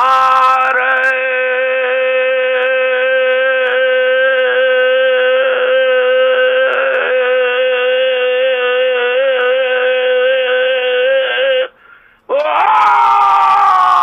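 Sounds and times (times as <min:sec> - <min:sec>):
voice holding long notes: 0:00.0 - 0:11.8.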